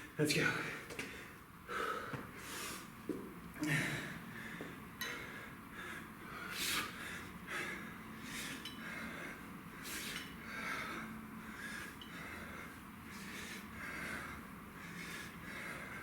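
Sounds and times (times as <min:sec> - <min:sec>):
man breathing hard: 0:00.0 - 0:03.0, 0:03.6 - 0:16.0.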